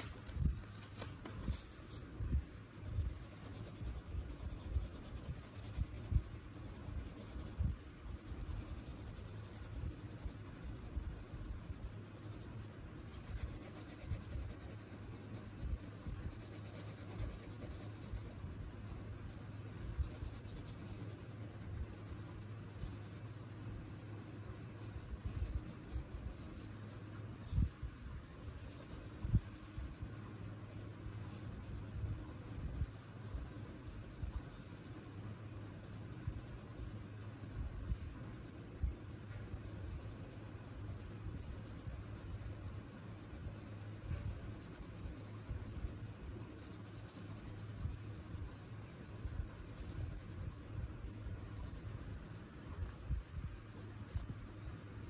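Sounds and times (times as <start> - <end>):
crayon scribbling on paper: 1.0 - 55.0.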